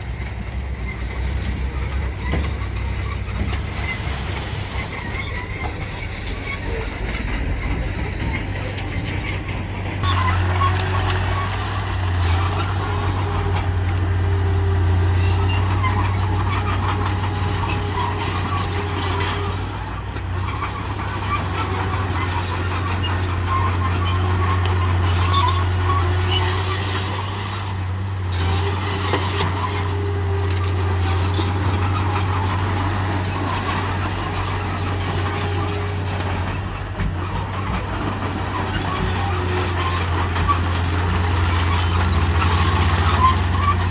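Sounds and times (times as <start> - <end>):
heavy diesel machinery droning: 0.0 - 43.9
high-pitched squeaks: 0.1 - 43.9.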